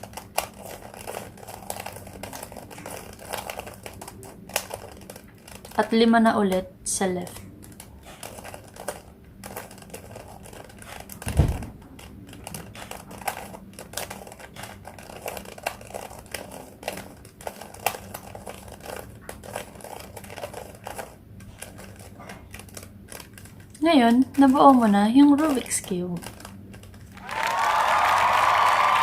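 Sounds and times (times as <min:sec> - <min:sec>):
puzzle cube clicking as twisted: 0:00.0 - 0:05.9, 0:07.2 - 0:24.8, 0:25.4 - 0:27.2.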